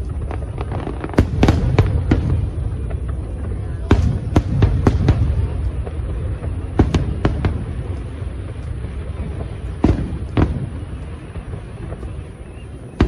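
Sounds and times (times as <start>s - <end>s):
continuous low rumble: 0.0s - 13.0s
fireworks bangs: 0.0s - 13.0s.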